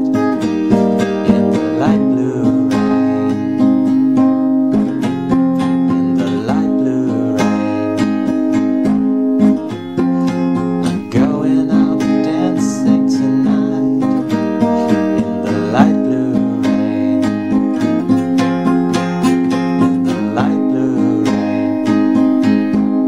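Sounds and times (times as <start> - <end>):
song with strummed acoustic guitar: 0.0 - 23.0.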